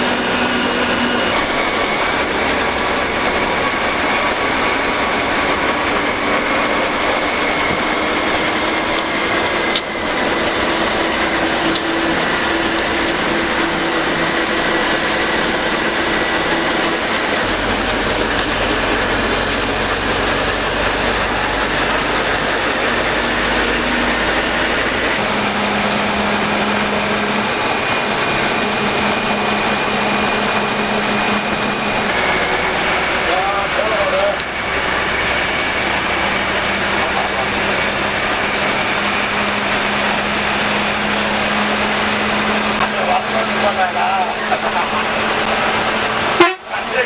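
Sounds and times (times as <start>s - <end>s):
bus engine and road noise: 0.0s - 47.0s.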